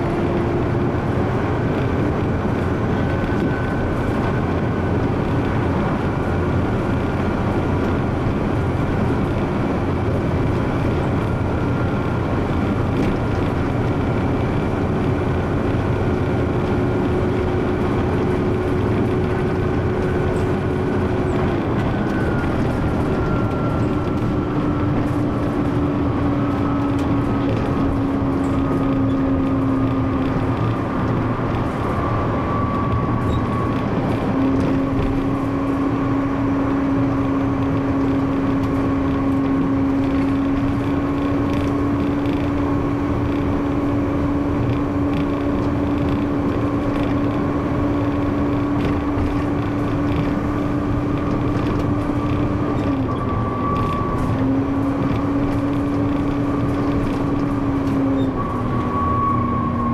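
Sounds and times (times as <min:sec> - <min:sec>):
bus engine whine: 0:00.0 - 0:59.9
road rumble: 0:00.0 - 0:59.9.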